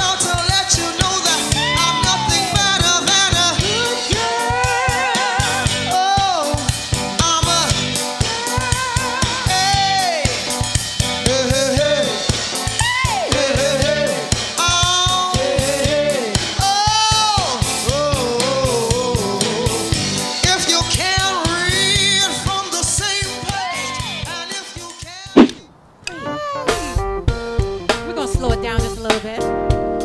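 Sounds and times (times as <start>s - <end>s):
band with drum kit beat: 0.0s - 25.7s, 26.7s - 30.0s.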